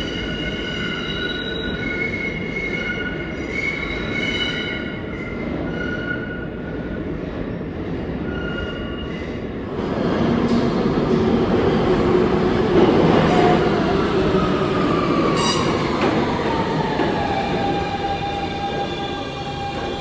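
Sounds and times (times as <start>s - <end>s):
subway train running: 0.0s - 20.0s.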